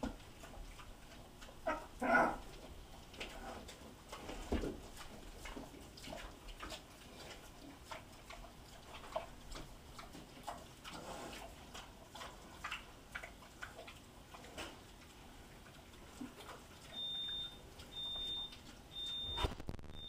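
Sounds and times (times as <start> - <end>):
pigs chewing and smacking: 0.0 - 20.0.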